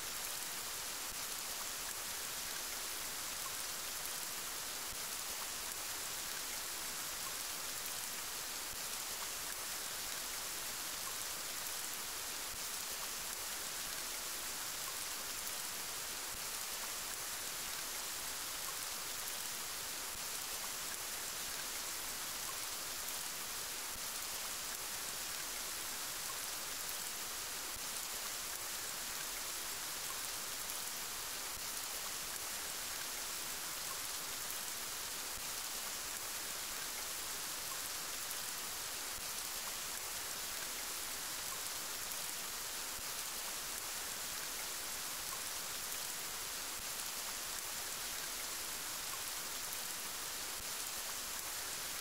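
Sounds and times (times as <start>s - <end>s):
steady rain: 0.0s - 52.0s.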